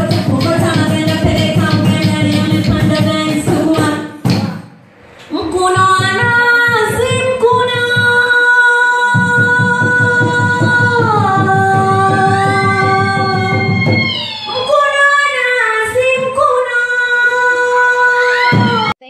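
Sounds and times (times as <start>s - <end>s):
woman singing into microphone: 0.0s - 4.3s, 5.3s - 19.0s.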